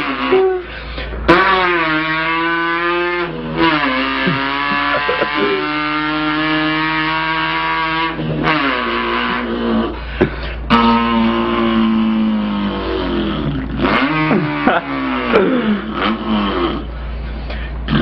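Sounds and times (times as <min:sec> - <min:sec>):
vocal imitation of car engine: 0:00.0 - 0:18.0.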